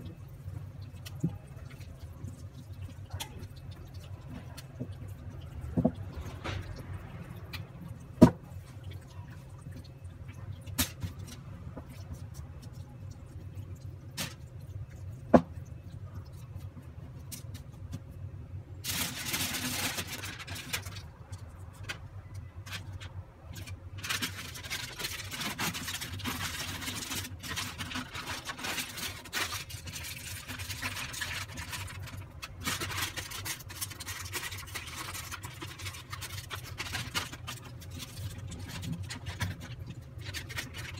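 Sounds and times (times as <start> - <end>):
aluminium foil crinkling: 0.0 - 40.9
low steady hum: 0.0 - 40.9.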